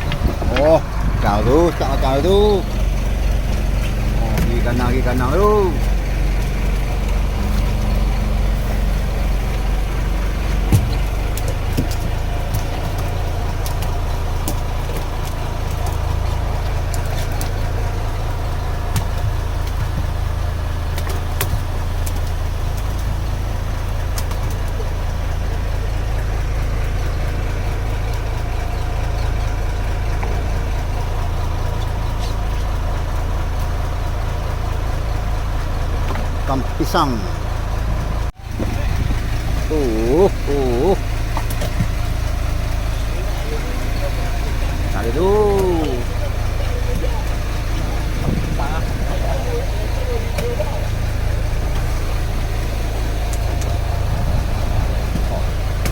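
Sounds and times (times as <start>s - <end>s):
boat engine idling: 0.0s - 55.9s.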